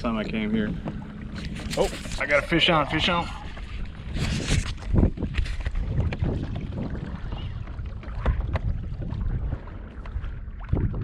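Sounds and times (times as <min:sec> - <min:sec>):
water splashes: 0:00.0 - 0:11.0
wind rumbling on microphone: 0:00.0 - 0:11.0.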